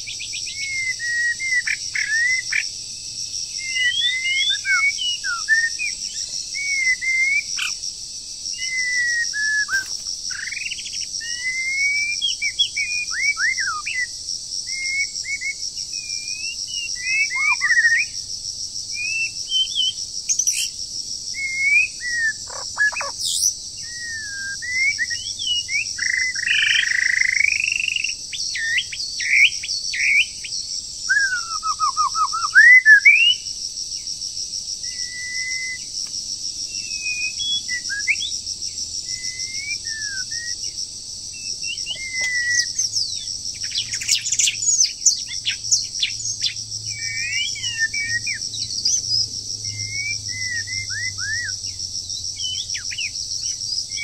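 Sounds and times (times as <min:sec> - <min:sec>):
insects droning: 0:00.0 - 0:54.0
songbirds singing and chirping: 0:00.0 - 0:54.0.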